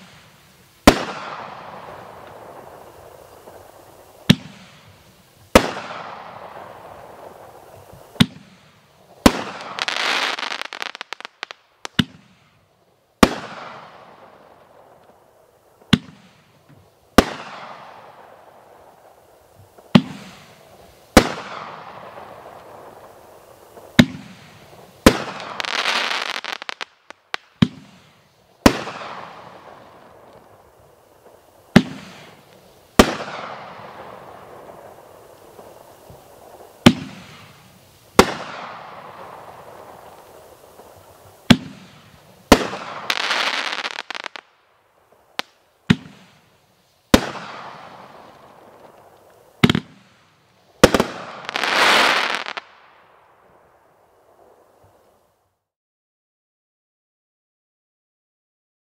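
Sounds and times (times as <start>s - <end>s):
firework crackling: 0.0s - 55.6s.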